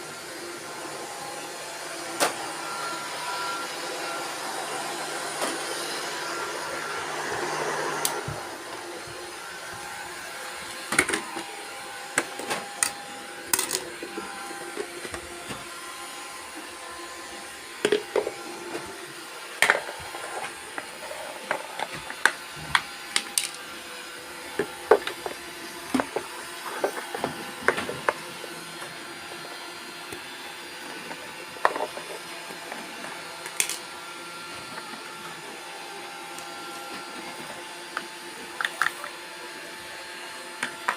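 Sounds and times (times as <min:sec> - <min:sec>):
robot vacuum motor whir: 0:00.0 - 0:39.2.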